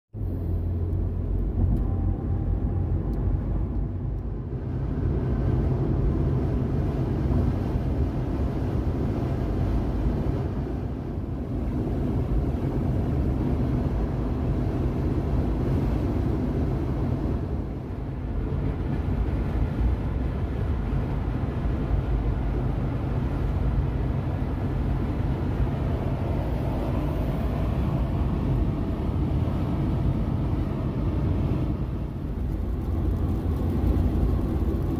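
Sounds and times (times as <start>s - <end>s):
car road rumble from inside: 0.2s - 34.9s.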